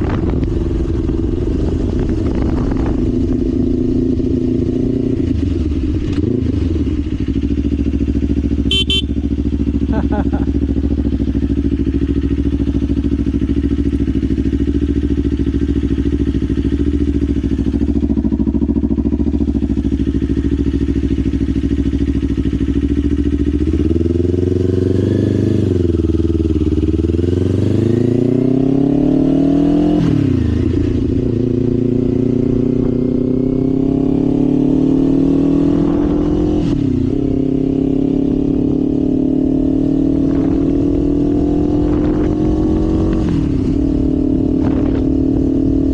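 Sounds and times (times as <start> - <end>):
motorcycle engine revving with upshifts: 0.0 - 45.9.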